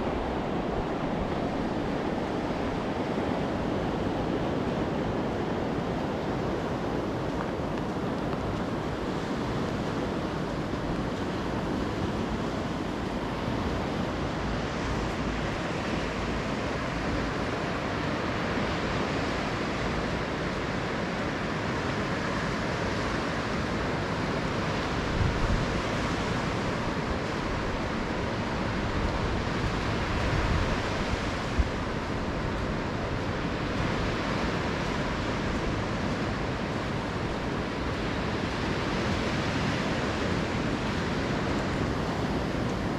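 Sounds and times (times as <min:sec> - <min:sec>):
gentle surf on sandy beach: 0:00.0 - 0:42.9
wind buffeting microphone: 0:00.0 - 0:42.9.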